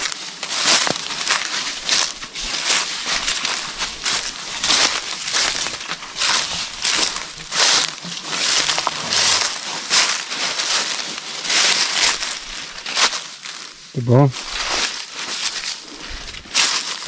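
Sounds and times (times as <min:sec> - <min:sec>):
footsteps crunching dry leaves: 0:00.0 - 0:17.0.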